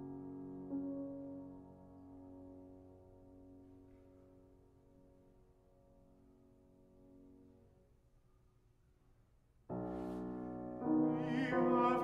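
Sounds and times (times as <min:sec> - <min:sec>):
piano playing slow chords: 0:00.0 - 0:07.9, 0:09.7 - 0:12.0.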